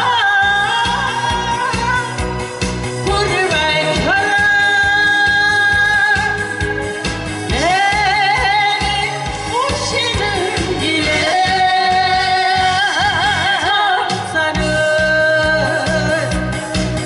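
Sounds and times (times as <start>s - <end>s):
instrumental accompaniment with beat: 0.0s - 17.0s
woman singing into microphone: 0.0s - 17.0s.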